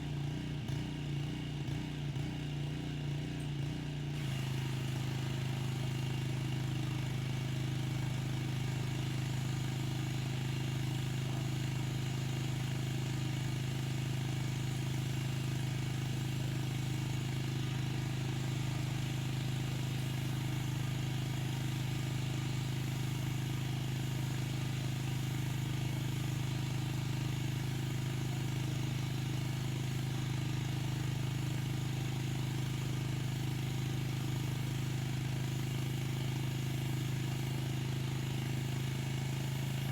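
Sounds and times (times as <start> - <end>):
pressure washer pump hum: 4.2 - 39.9.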